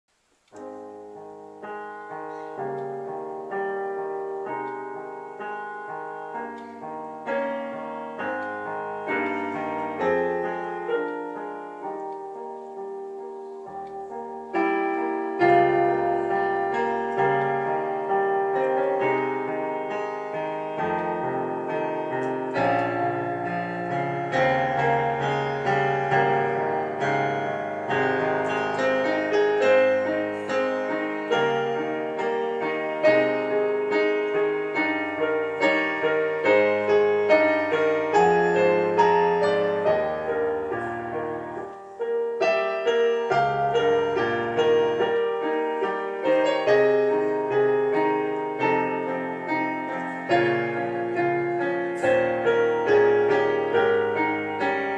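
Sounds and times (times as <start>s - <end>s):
piano music: 0.1s - 54.9s.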